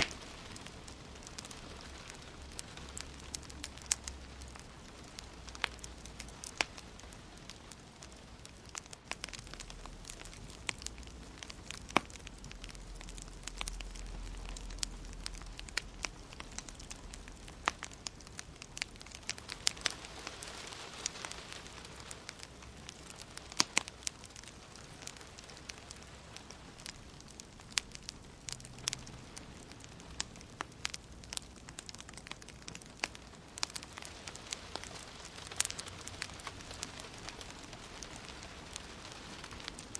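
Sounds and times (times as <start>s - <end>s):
gentle rain hiss: 0.0s - 39.9s
wood fire crackling: 0.0s - 39.9s.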